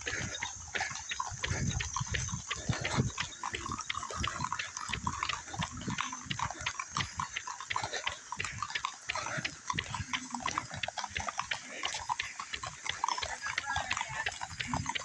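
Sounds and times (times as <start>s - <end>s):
horses hooves clip-clopping: 0.0s - 15.0s.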